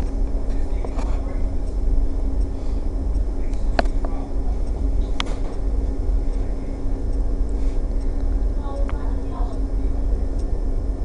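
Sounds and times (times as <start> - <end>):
low rumble and hum: 0.0 - 11.0.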